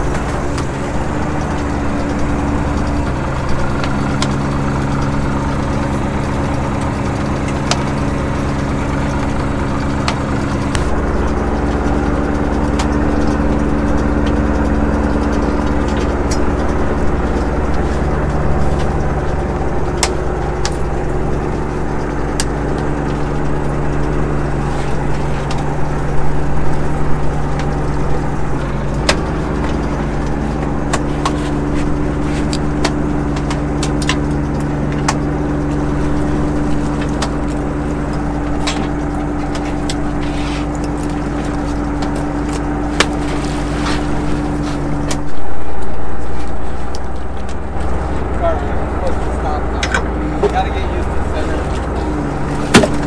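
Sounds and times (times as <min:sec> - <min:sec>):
boat engine humming: 0:00.0 - 0:53.0
gear clicking and knocking: 0:00.0 - 0:53.0.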